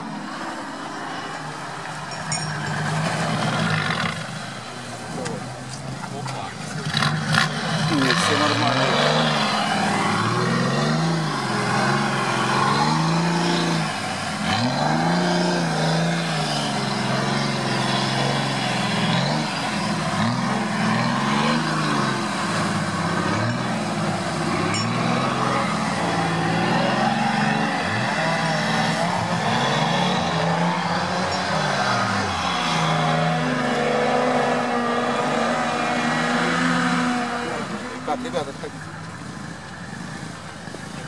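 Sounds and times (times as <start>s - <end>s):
water and mud churning: 0.0s - 41.0s
engine revving hard: 2.8s - 4.5s, 6.6s - 39.5s.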